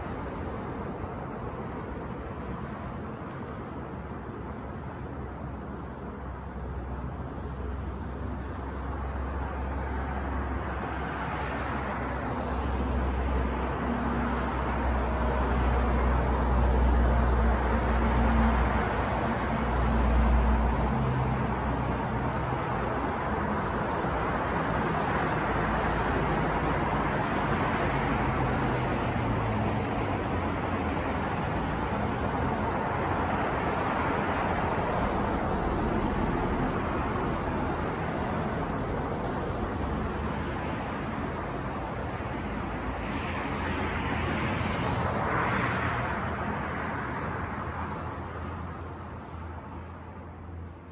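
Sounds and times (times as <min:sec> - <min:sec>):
street traffic passing: 0:00.0 - 0:50.9.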